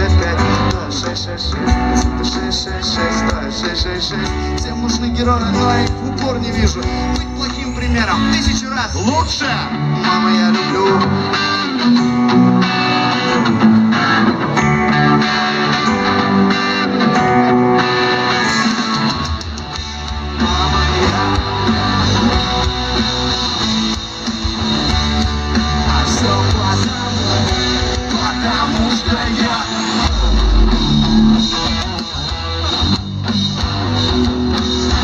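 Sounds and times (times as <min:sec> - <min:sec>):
bass guitar: 0:00.0 - 0:35.0
live band guitar music: 0:00.0 - 0:35.0.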